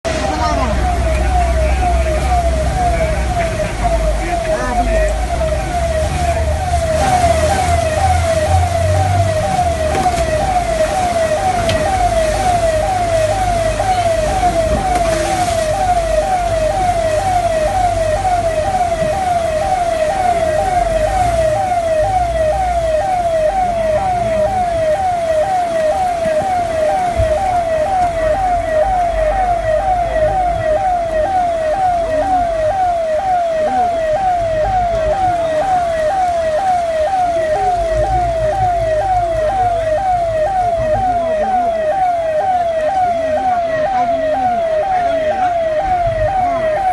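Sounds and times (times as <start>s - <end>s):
electronic siren falling tone: 0.1s - 46.9s.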